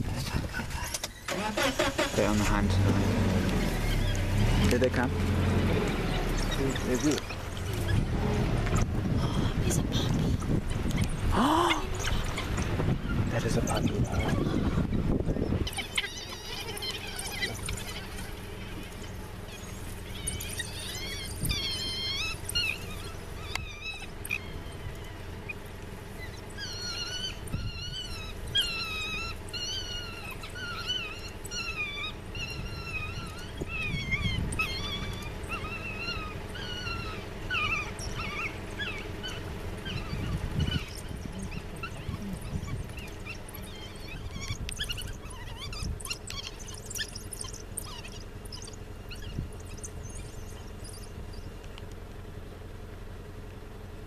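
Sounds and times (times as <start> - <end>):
wild dogs twittering and squealing: 0.0 - 53.8.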